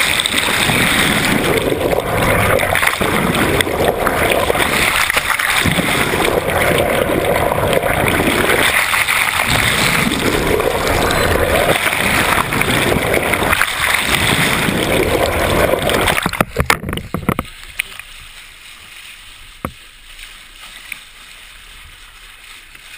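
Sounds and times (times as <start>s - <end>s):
water rushing underwater: 0.0s - 22.9s.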